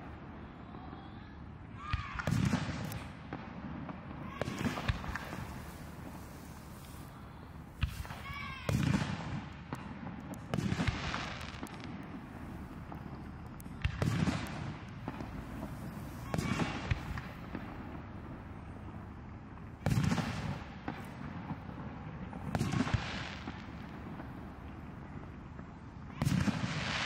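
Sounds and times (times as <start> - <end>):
firework shells booming: 2.0 - 27.0.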